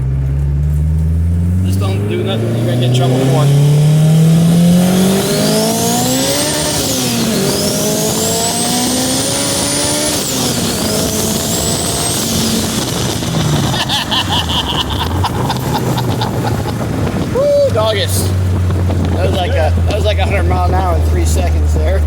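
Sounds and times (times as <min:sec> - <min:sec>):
engine revving under acceleration: 0:00.0 - 0:22.0.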